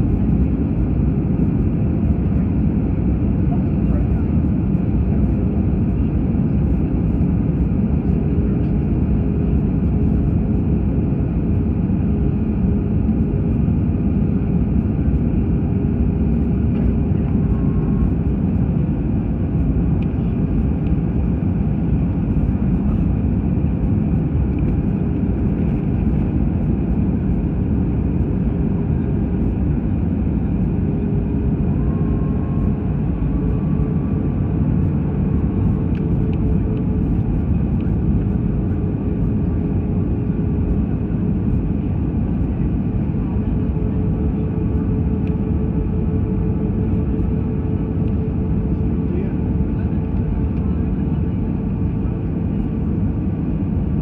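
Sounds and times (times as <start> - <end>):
airplane cabin engine rush: 0.0 - 54.0.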